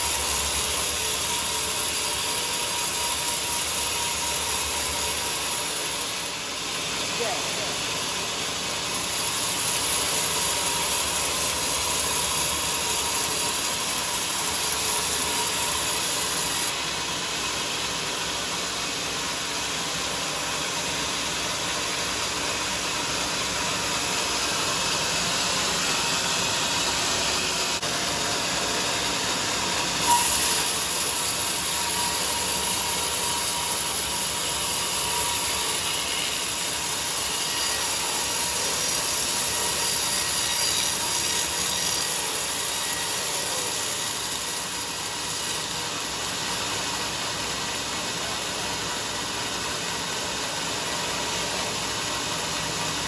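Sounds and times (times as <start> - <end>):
sawmill saw cutting log: 0.0 - 53.0.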